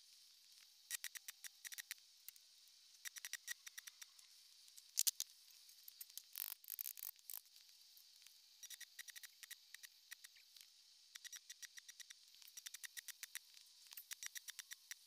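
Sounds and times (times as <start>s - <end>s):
faint sharp clicks and ticks: 0.5s - 15.0s.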